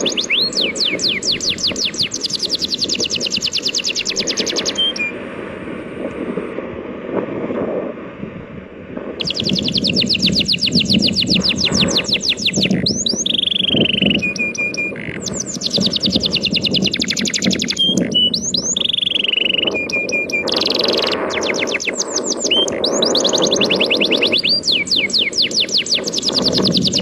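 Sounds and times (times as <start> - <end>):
songbird singing trills: 0.0 - 5.2, 9.2 - 27.0.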